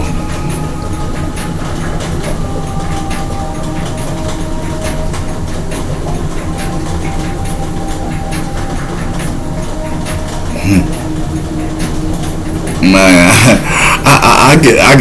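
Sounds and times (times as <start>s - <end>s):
faint thin steady tones: 0.0s - 15.0s
train rumbling on track: 0.0s - 15.0s.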